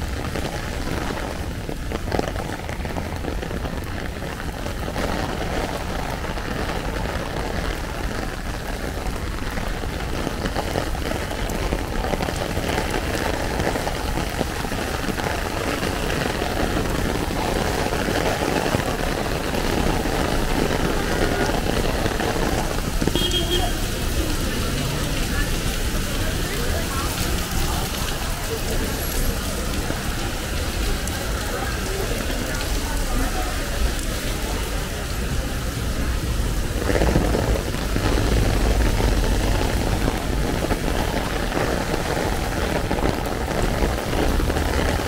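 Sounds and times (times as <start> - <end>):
heavy rain on umbrella: 0.0 - 45.0.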